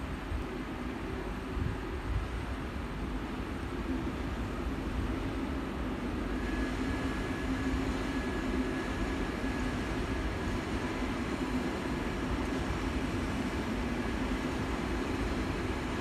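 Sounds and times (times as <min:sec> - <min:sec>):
faint high whine: 0:00.0 - 0:16.0
train equipment humming: 0:00.0 - 0:16.0.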